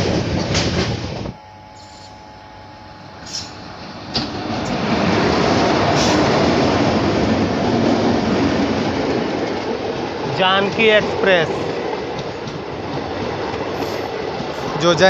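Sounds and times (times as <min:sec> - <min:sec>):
train passing with rumble and clatter: 0:00.0 - 0:02.2, 0:02.8 - 0:15.0.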